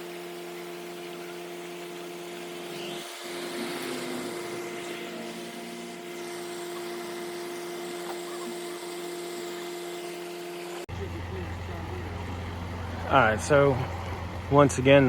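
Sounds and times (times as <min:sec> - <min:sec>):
engine humming: 0:01.0 - 0:15.0.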